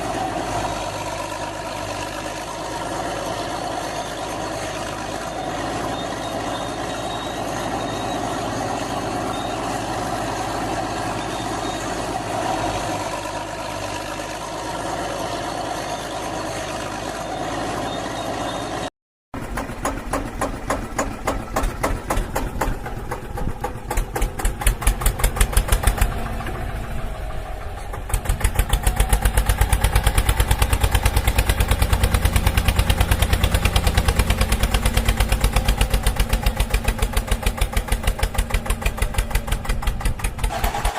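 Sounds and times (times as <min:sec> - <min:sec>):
diesel engine drone: 0:00.0 - 0:40.9
engine chugging rhythmically: 0:00.0 - 0:40.9.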